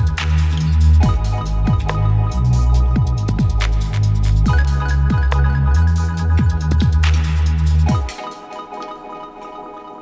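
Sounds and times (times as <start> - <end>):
steady drum beat: 0.0 - 8.2
electronic dance music: 0.0 - 9.4.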